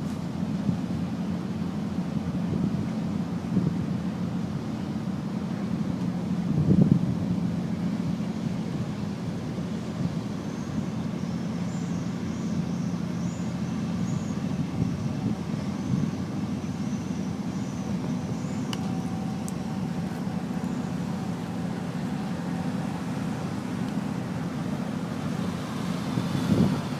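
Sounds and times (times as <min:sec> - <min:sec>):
low engine drone: 0:00.0 - 0:26.9.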